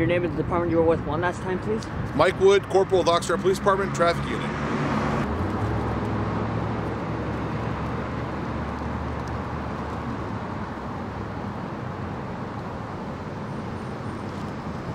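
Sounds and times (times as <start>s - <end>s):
vehicle engines and road noise: 0.0s - 14.9s.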